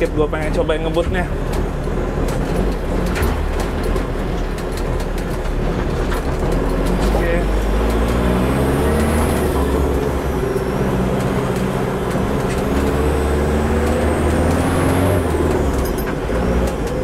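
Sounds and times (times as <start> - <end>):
diesel engine accelerating: 0.0 - 17.0.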